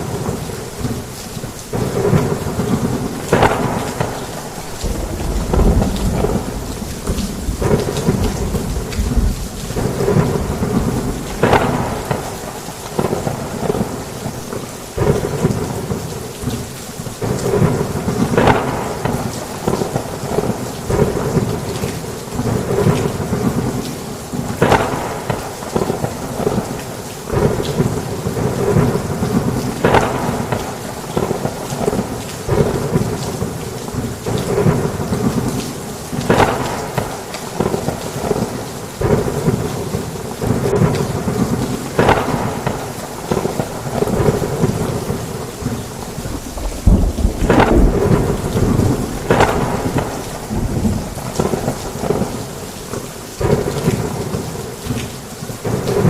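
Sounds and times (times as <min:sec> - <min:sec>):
heavy rain: 0:00.0 - 0:56.0
thunder cracks and rumbles: 0:01.7 - 0:16.6, 0:17.2 - 0:21.6, 0:22.4 - 0:52.6.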